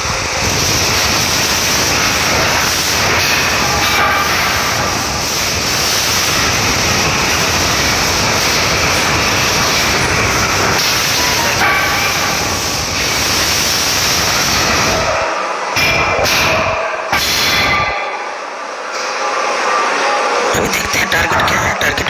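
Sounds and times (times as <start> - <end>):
loud rushing noise: 0.0 - 22.0.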